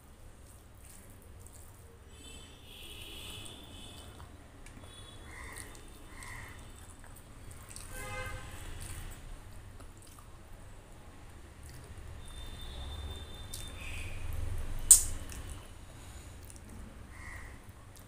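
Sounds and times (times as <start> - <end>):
chewing and mouth sounds: 0.0 - 2.5, 3.2 - 18.0
wet squishing of rice by hand: 0.0 - 18.0
squeaky wet sounds: 0.8 - 10.6, 11.5 - 18.0.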